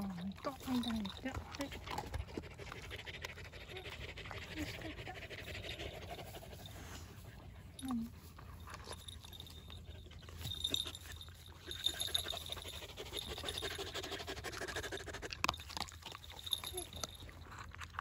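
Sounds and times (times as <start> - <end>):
dogs panting: 0.0 - 18.0.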